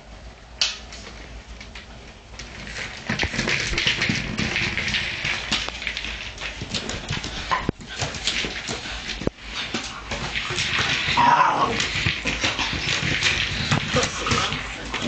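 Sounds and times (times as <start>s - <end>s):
ball clicking and scraping: 1.6s - 15.0s.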